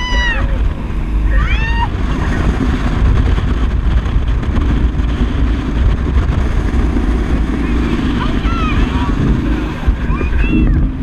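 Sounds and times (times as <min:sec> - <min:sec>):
speedboat running fast: 0:00.0 - 0:11.0.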